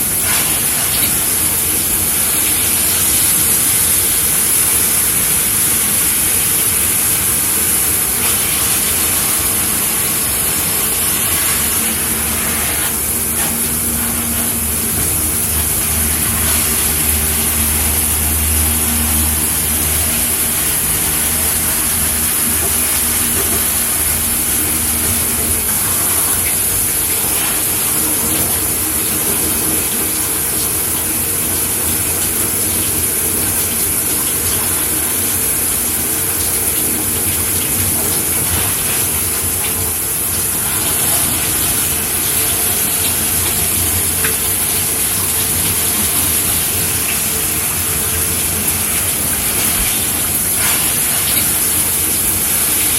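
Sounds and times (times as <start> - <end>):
shower spraying water: 0.0 - 52.9.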